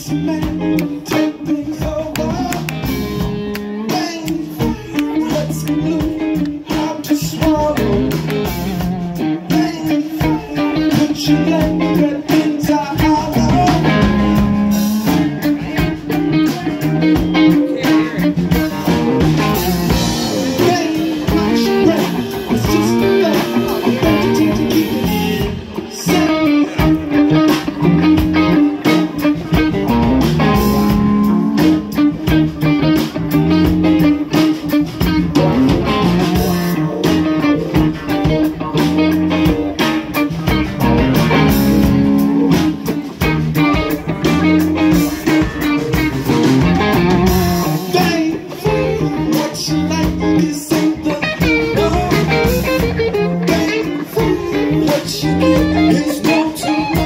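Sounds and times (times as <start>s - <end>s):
drum kit beat: 0.0s - 57.0s
electric guitars: 0.0s - 57.0s
rock band playing: 0.0s - 57.0s.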